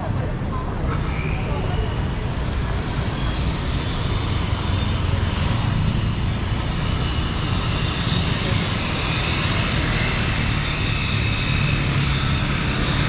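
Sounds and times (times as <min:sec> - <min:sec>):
low rumble of city traffic: 0:00.0 - 0:13.0.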